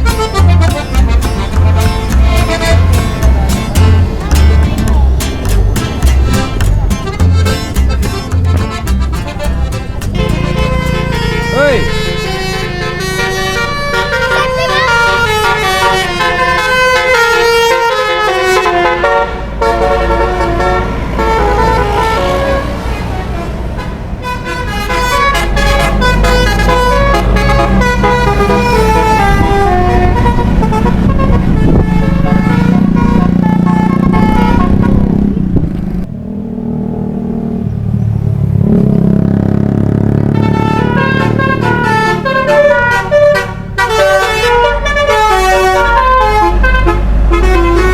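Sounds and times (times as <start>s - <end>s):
bus horn playing a tune: 0.0s - 35.7s, 39.9s - 47.9s
bus engine running: 0.0s - 47.9s.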